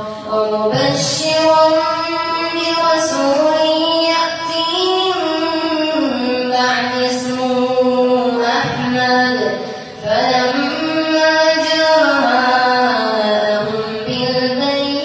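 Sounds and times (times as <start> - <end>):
boy chanting melodically: 0.0 - 15.0.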